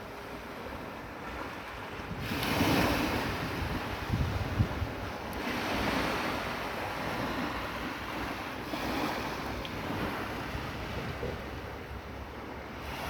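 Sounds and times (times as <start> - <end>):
sea waves breaking: 0.0 - 13.0
wind buffeting microphone: 0.4 - 13.0.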